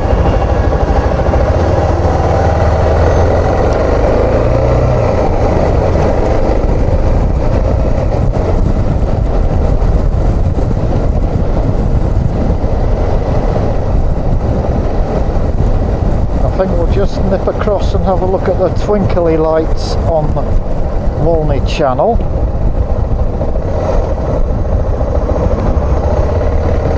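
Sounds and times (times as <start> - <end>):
motorcycle engine running: 0.0 - 19.2, 20.0 - 26.9.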